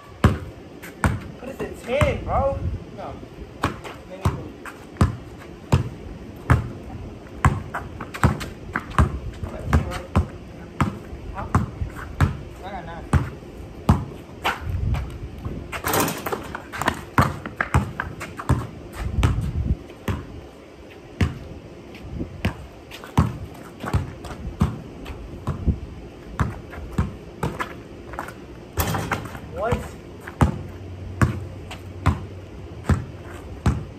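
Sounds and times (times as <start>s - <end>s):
basketball bouncing on concrete: 0.2s - 2.4s, 3.6s - 20.4s, 21.2s - 21.5s, 22.4s - 33.9s.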